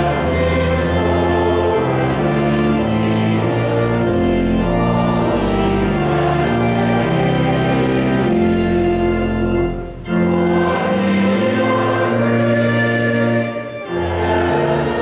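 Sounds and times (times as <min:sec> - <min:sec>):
church organ playing a hymn: 0:00.0 - 0:15.0.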